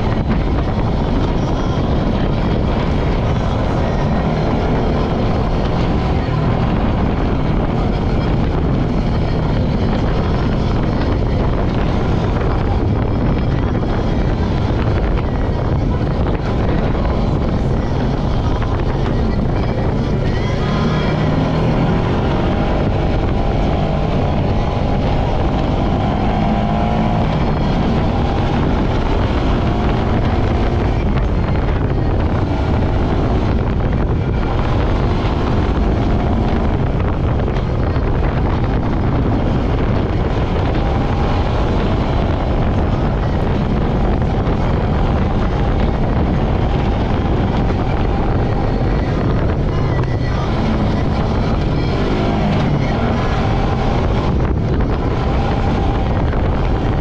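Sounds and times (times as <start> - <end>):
atv engine running: 0.0 - 57.0
low rumble of riding: 0.0 - 57.0.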